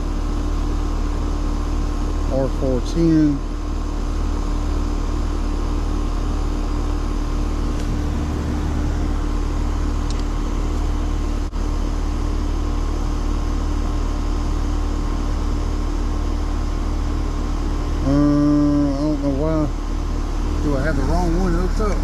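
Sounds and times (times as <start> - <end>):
heat pump unit humming: 0.0 - 22.0.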